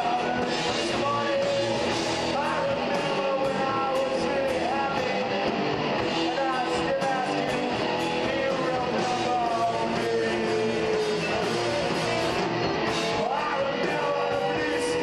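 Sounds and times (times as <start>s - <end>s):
drums and crashing cymbals: 0.0s - 15.0s
electric guitar bending notes: 0.0s - 15.0s.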